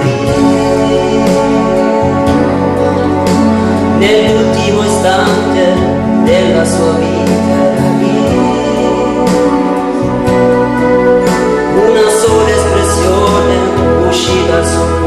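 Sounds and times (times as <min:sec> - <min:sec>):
electronic keyboard chords: 0:00.0 - 0:15.0
man singing into microphone: 0:00.0 - 0:15.0.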